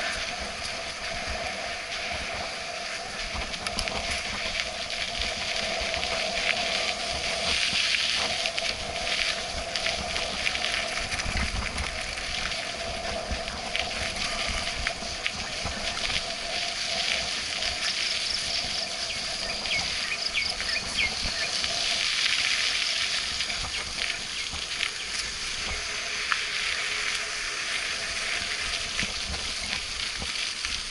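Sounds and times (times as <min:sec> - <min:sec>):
wind on microphone: 0:00.0 - 0:30.9
bike rattles and clicks: 0:00.1 - 0:30.9.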